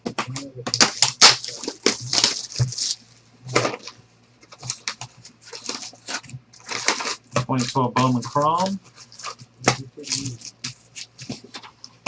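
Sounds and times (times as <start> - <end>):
foil wrappers tearing and crinkling: 0.7 - 3.9, 4.6 - 11.5.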